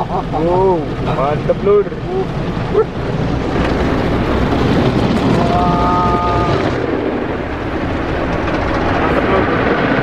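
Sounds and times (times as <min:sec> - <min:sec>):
water spraying on car: 0:00.0 - 0:10.0
car-wash brushes rotating: 0:00.9 - 0:10.0.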